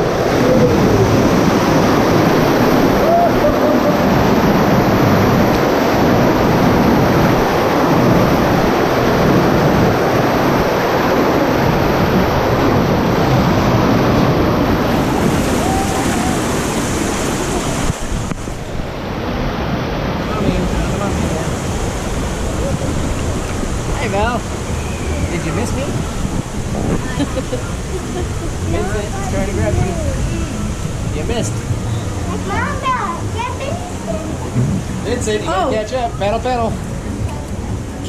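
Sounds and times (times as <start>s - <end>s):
churning water rushing: 0.0s - 38.0s.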